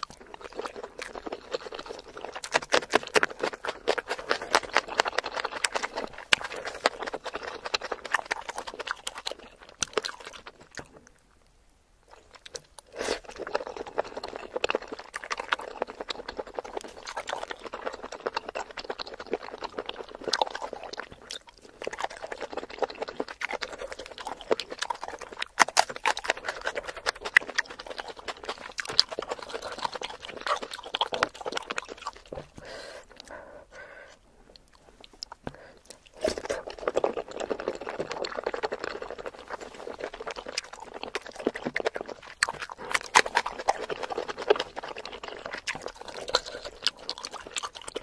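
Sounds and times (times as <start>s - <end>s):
wet chewing mouth clicks: 0.0s - 11.2s, 12.1s - 48.0s.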